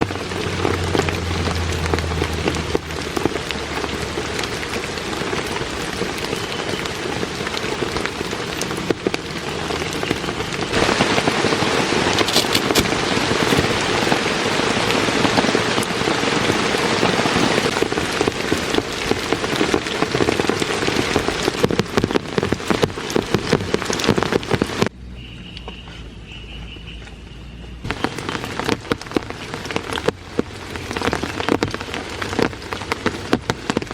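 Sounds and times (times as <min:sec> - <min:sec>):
heavy rain falling: 0:00.0 - 0:24.9, 0:27.8 - 0:33.9.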